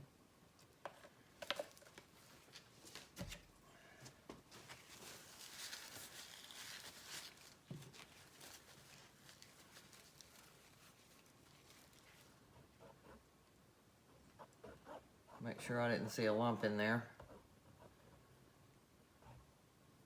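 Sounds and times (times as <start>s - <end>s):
soft rustling hiss: 0.3s - 20.0s.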